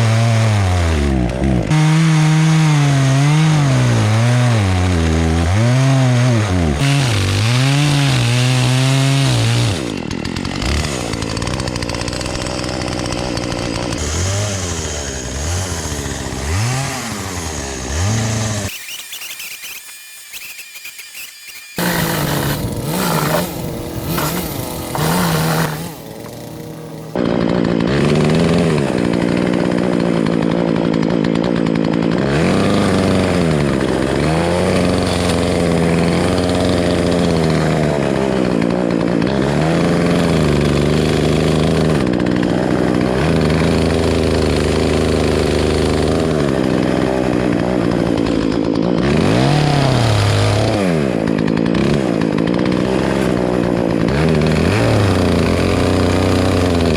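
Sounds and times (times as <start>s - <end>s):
chainsaw cutting tree: 0.0s - 56.9s.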